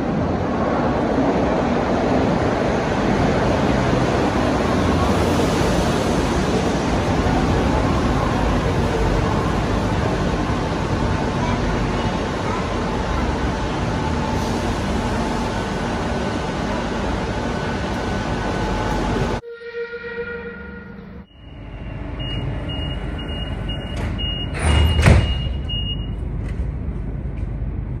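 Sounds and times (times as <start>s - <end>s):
metro train rumbling: 0.0s - 28.0s.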